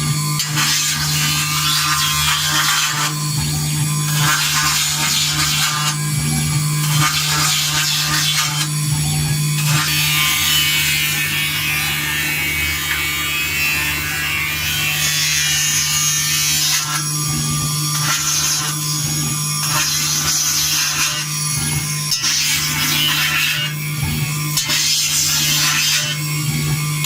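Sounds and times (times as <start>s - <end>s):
engraving spindle humming: 0.0s - 27.0s.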